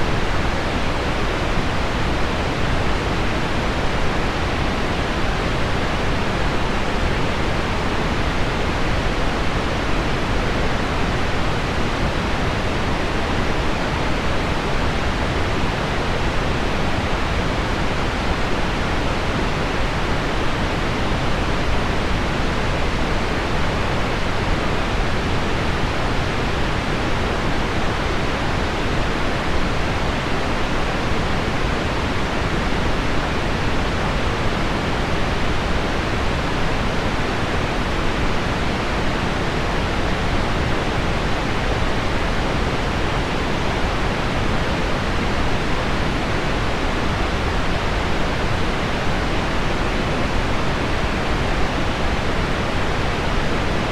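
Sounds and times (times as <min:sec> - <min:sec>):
pink noise: 0:00.0 - 0:53.9.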